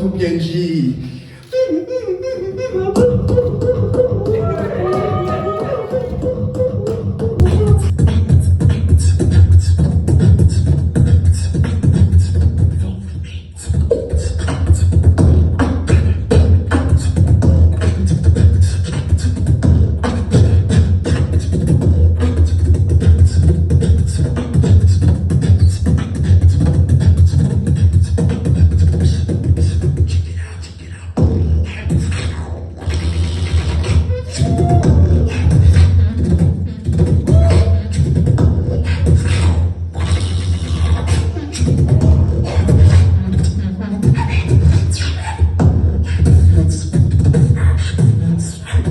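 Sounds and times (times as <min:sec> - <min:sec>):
person beatboxing: 0:00.0 - 0:48.9.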